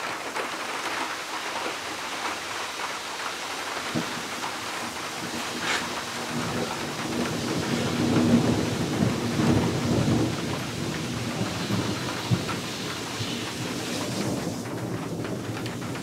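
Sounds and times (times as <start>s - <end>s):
heavy rain falling: 0.0s - 16.0s
thunder rolling: 2.5s - 16.0s.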